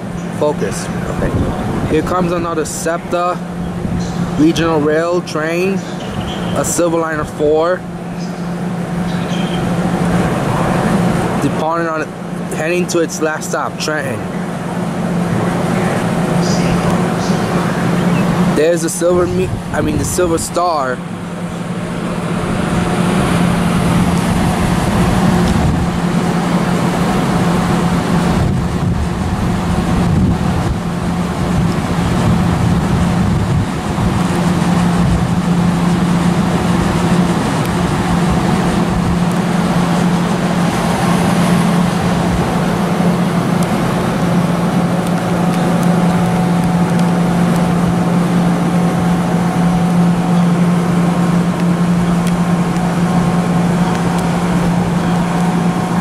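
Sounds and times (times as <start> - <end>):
low hum: 0.0 - 56.0
passing train rumble: 0.0 - 56.0.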